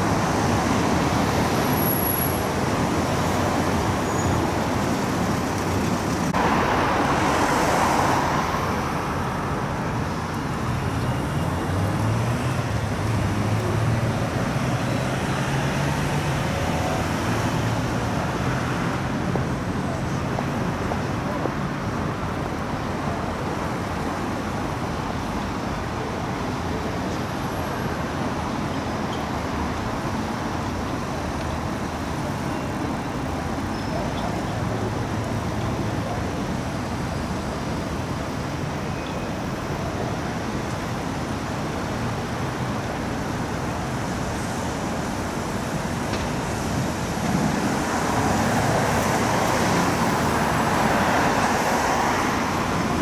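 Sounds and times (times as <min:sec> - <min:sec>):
passing car and bus engines: 0:00.0 - 0:53.0
tyres hissing on wet road: 0:00.0 - 0:53.0.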